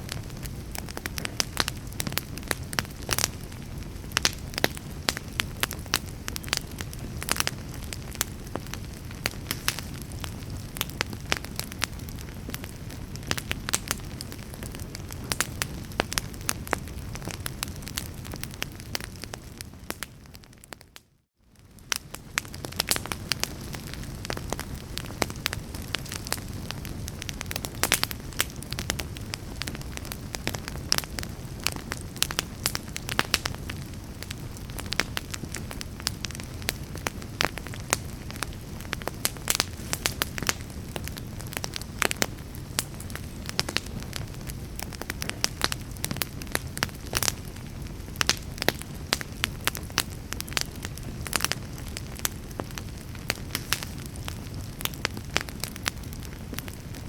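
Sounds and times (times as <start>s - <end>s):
fire crackles and pops: 0.0s - 57.0s
rumble of flames: 0.0s - 57.0s.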